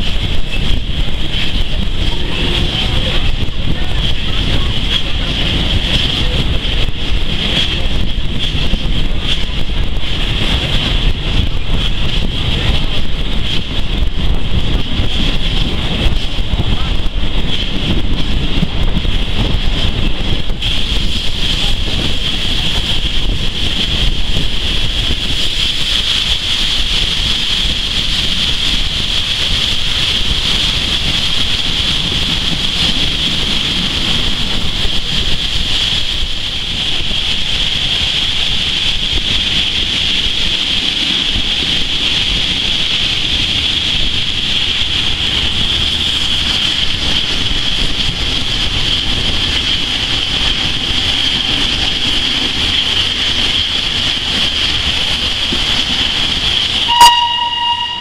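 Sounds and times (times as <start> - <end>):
train wheels rumbling on rails: 0.0 - 58.0
wind buffeting microphone: 0.0 - 58.0.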